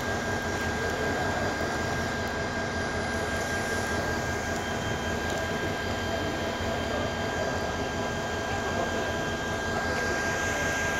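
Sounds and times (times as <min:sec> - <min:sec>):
thin high whine: 0:00.0 - 0:10.9.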